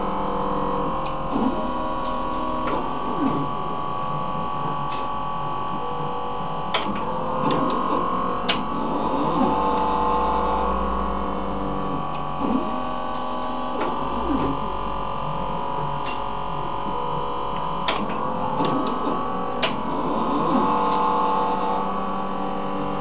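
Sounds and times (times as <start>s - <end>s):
machine hum with held tones: 0.0s - 23.0s.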